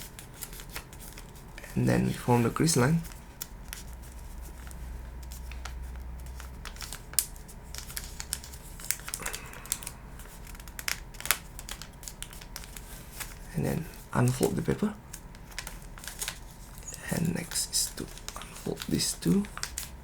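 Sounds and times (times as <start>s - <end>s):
paper being folded and creased: 0.0s - 20.0s.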